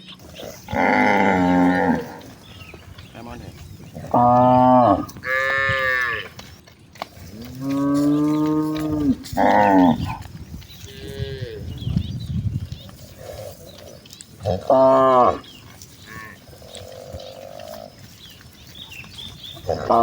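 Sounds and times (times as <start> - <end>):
cows mooing: 0.0 - 6.5, 7.1 - 12.1, 12.9 - 20.0.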